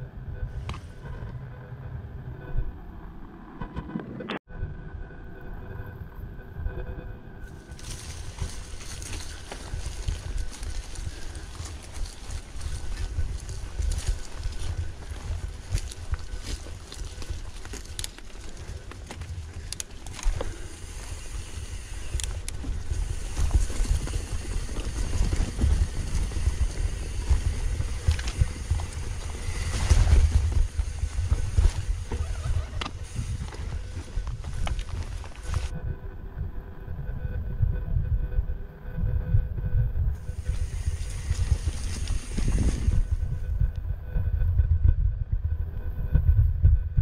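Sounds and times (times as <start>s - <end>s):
wind rumbling on microphone: 0.0s - 47.0s
bike rattles and clicks: 7.4s - 38.1s, 39.0s - 46.8s.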